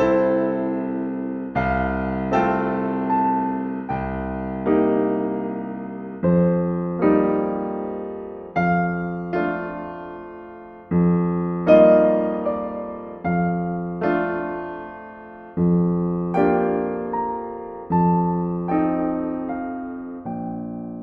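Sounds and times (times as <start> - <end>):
slow solo piano music: 0.0 - 21.0.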